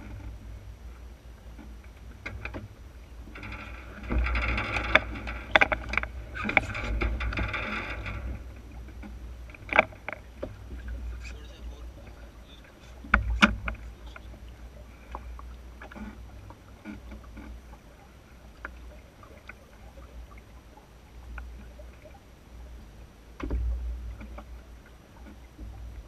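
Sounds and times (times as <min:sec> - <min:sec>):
boat knocks and clicks: 0:00.0 - 0:26.0
water and wind rumbling against hull: 0:00.0 - 0:26.0.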